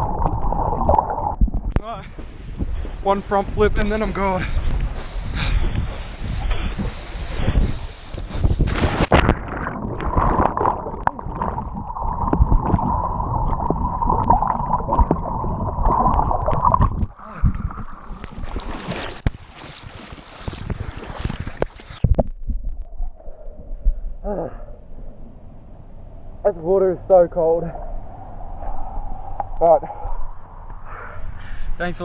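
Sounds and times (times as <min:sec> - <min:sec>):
water churning and gurgling: 0:00.0 - 0:32.0.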